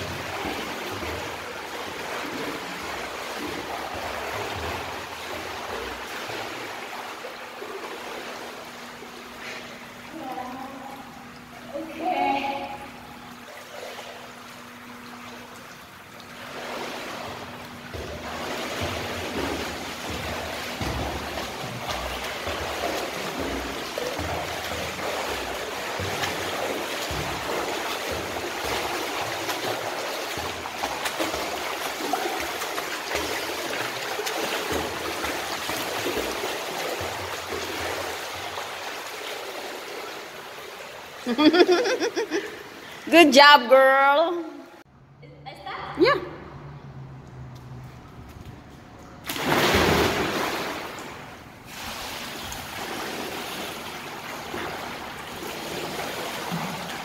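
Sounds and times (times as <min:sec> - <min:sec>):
swimmer splashing: 0:00.0 - 0:44.8, 0:46.2 - 0:57.0.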